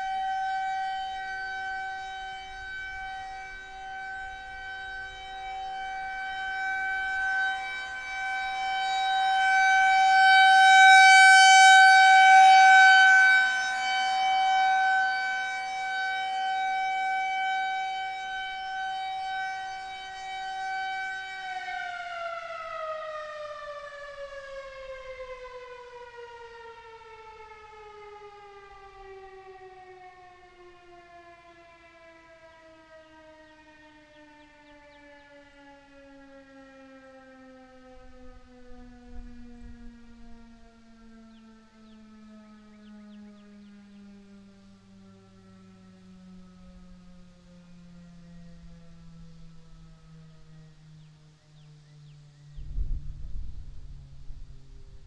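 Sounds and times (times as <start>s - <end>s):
rotating warning siren: 0.0s - 55.0s.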